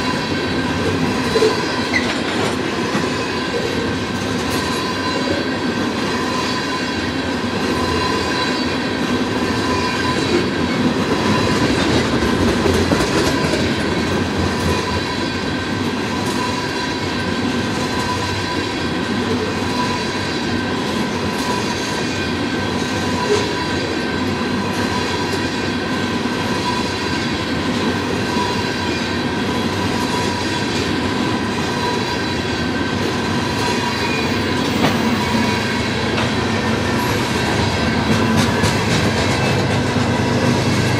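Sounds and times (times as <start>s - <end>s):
freight train rumbling past: 0.0s - 40.9s
rail joint clickety-clack: 0.0s - 40.9s.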